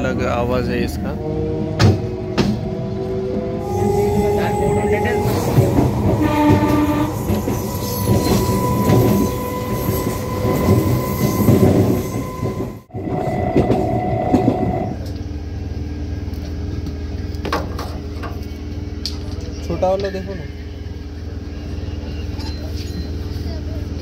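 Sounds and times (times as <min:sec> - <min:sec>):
train wheels rumbling and rattling: 0:00.0 - 0:24.0.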